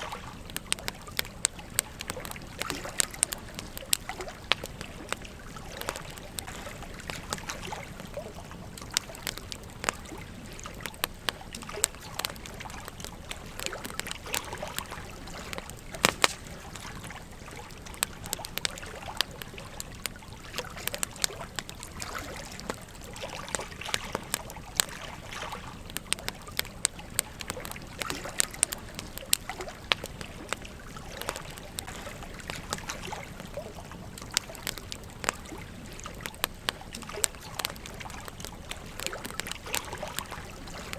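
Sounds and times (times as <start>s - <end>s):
campfire crackling and popping: 0.0s - 40.9s
stream babbling: 0.0s - 40.9s.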